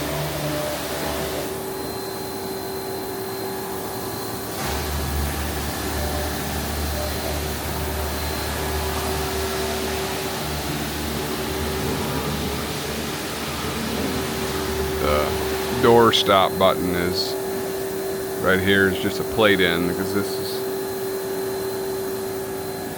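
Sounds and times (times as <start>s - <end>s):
machine electrical hum: 0.0s - 22.9s
steady tone over hiss: 0.0s - 22.9s.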